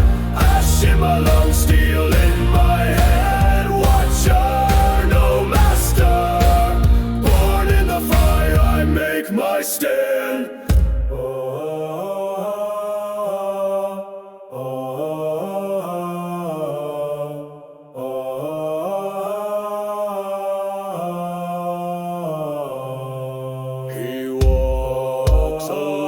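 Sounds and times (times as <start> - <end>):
deep male chanting: 0.0 - 13.9, 18.0 - 26.0.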